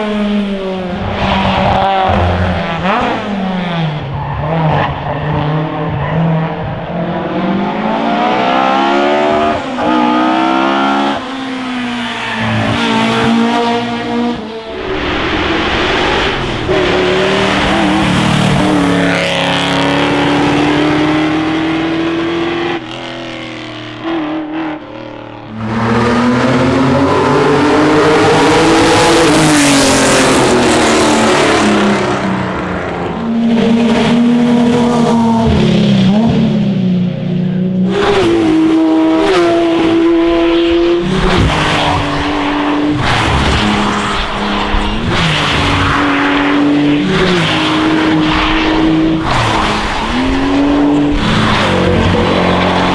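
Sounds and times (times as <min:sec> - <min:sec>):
racing car engines accelerating: 0:00.0 - 0:52.9.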